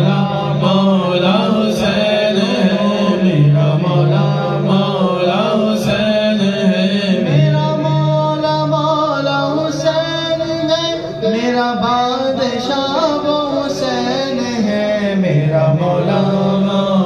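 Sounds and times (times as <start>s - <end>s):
men singing into microphones: 0.0s - 17.0s.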